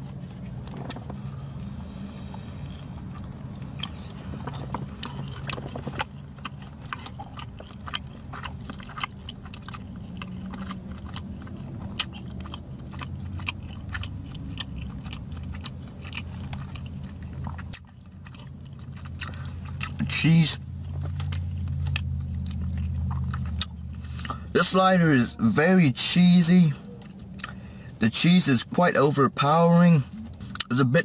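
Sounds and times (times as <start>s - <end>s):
close-up chewing: 0.0s - 25.2s, 26.2s - 30.8s
steady low hum: 0.0s - 31.0s.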